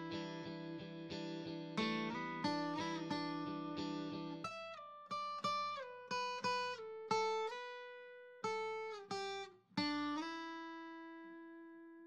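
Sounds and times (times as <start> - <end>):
guitar plucking slow melody: 0.0 - 12.0.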